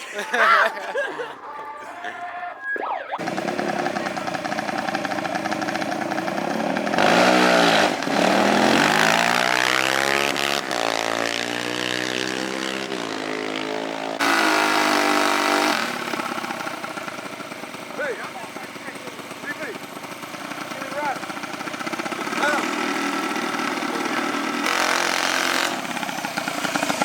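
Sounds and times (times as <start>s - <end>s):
off-road vehicle engine revving: 3.2s - 27.0s.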